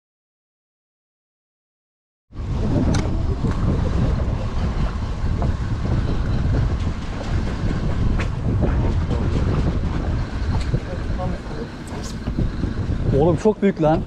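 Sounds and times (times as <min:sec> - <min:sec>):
wind buffeting microphone: 0:02.3 - 0:14.0
small boat engine running: 0:02.4 - 0:14.0.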